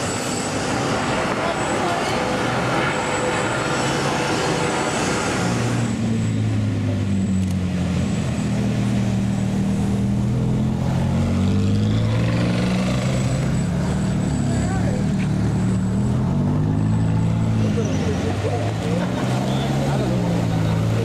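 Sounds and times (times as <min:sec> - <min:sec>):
broad rushing noise: 0:00.0 - 0:21.0.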